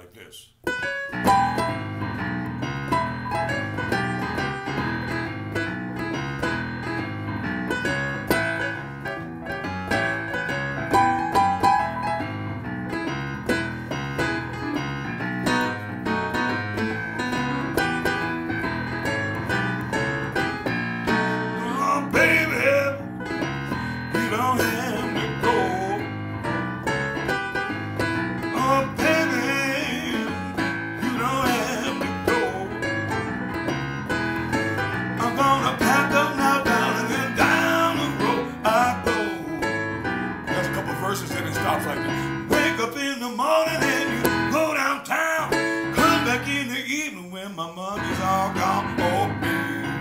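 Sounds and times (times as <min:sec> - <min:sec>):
keyboard playing blues: 0:00.6 - 0:50.0.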